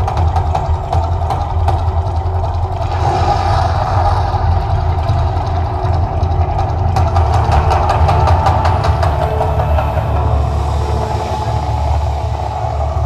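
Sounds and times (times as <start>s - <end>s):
deep rumble: 0.0s - 13.0s.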